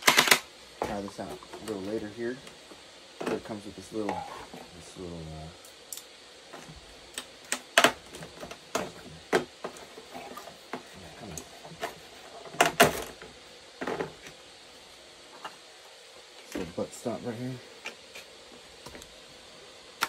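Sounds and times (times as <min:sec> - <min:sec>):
fan hissing: 0:00.0 - 0:20.0.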